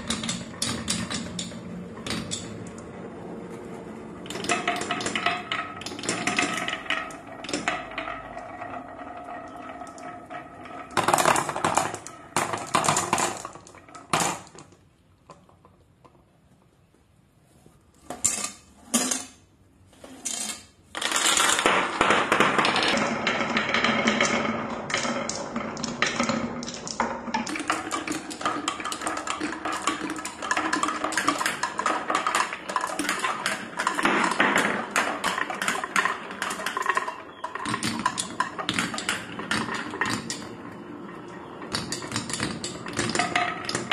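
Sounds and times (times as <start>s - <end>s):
marbles rattling down tracks: 0.0s - 14.7s, 20.3s - 43.9s.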